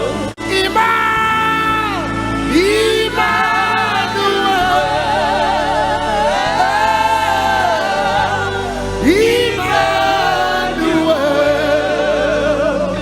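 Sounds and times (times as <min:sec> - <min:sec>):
gospel singing: 0:00.0 - 0:13.0.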